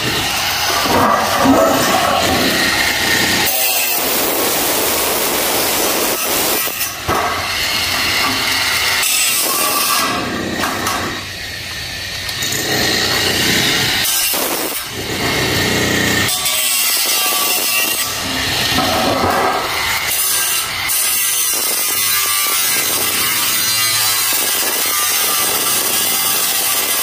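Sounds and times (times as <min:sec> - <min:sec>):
angle grinder cutting sheet metal: 0:00.0 - 0:27.0.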